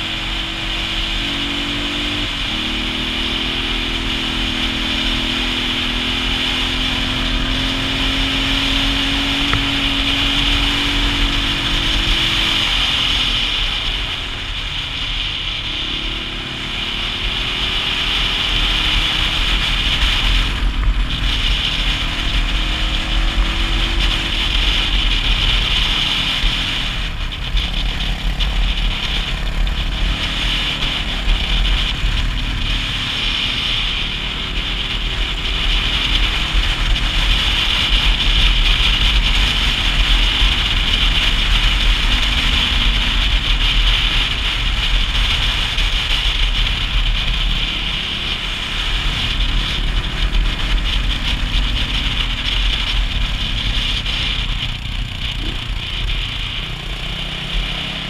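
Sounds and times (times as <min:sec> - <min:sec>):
motorcycle engine running: 0:00.0 - 0:58.0
rushing noise: 0:00.0 - 0:58.0.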